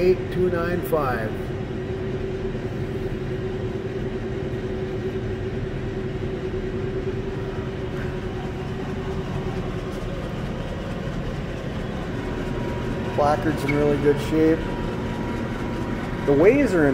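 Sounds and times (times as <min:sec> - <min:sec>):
machinery hum and rumble: 0:00.0 - 0:16.9.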